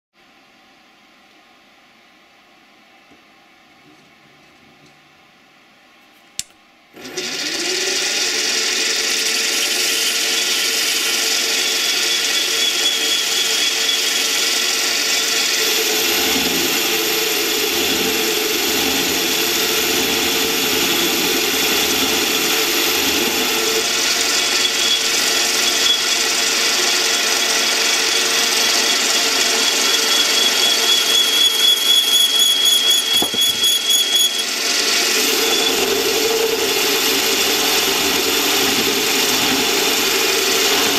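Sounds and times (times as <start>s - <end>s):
lathe running with a whine: 7.0s - 40.9s.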